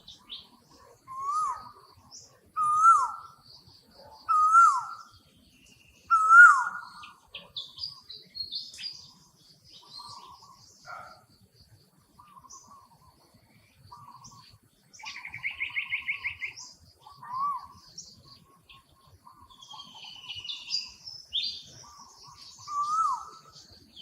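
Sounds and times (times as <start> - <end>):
high bird chirps and trills: 0.0 - 24.0.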